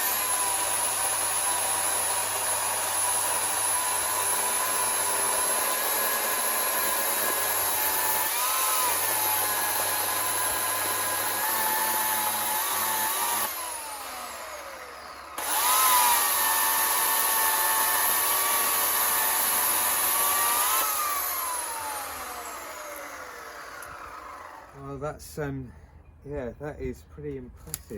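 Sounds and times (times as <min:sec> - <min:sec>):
electric chainsaw motor whine: 0:00.0 - 0:25.0.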